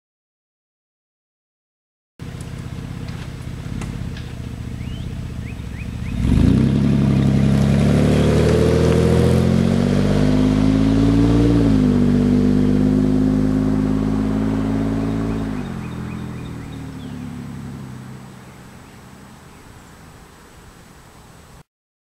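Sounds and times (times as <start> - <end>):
car engine idling and accelerating: 2.2 - 21.6.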